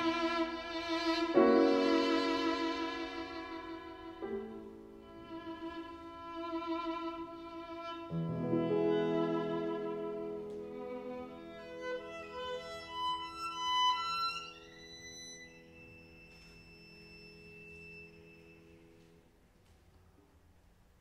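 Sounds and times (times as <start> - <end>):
solo violin playing slowly: 0.0 - 19.2.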